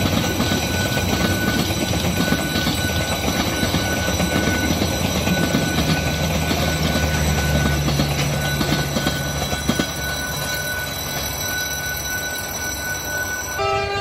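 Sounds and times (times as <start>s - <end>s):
train wheel clatter: 0.0s - 13.6s
crossing warning tone: 0.0s - 14.0s
diesel engine drone: 0.0s - 14.0s.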